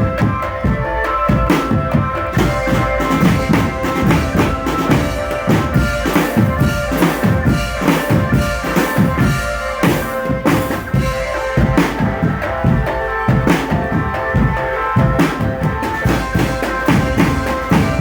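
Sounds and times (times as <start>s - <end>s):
bass and snare drums beating: 0.0s - 18.0s
held melody line: 0.0s - 18.0s
marching drum band: 0.0s - 18.0s.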